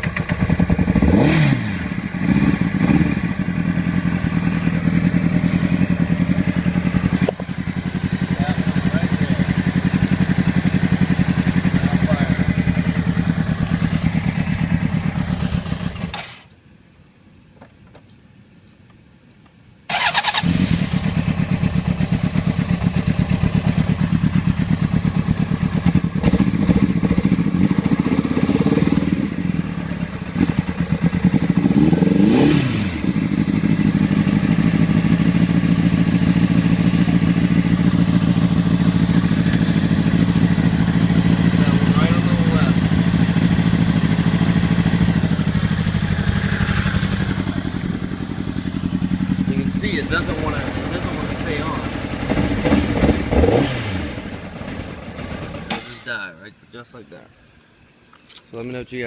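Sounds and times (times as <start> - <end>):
misfiring motorcycle engine: 0.0 - 16.6, 19.9 - 56.1.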